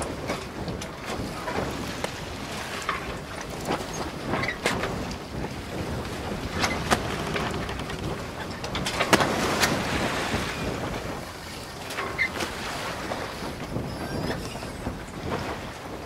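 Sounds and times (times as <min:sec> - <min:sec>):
rushing water: 0:00.0 - 0:16.0
wind on microphone: 0:00.0 - 0:16.0.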